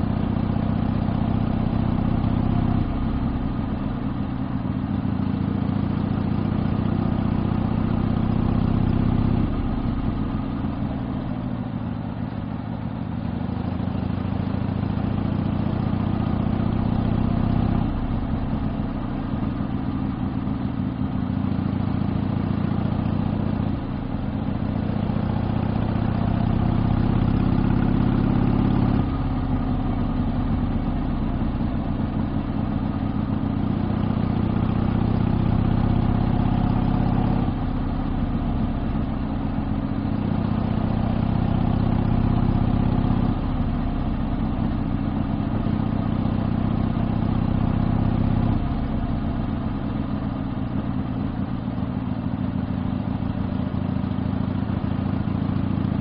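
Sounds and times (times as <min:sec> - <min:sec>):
motorcycle exhaust running steadily: 0:00.0 - 0:56.0.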